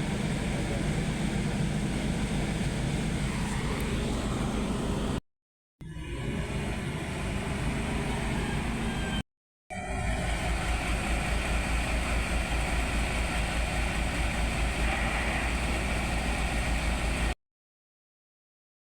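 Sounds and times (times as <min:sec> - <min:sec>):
diesel engine running: 0:00.0 - 0:05.2, 0:05.8 - 0:17.4.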